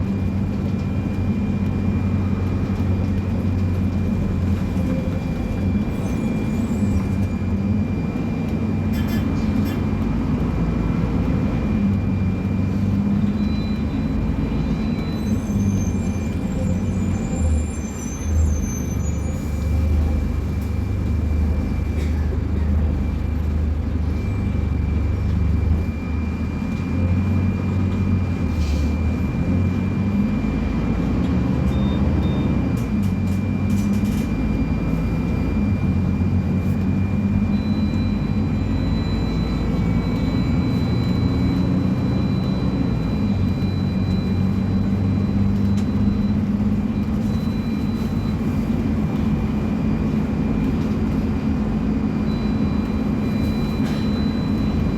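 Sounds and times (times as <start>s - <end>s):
bus diesel engine running: 0.0s - 54.9s.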